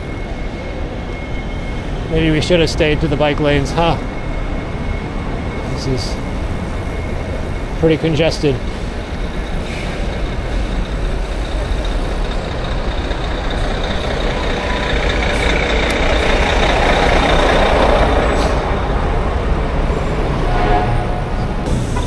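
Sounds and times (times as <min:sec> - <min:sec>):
heavy bus engines running: 0:00.0 - 0:22.0
steady traffic rushing noise: 0:00.0 - 0:22.0.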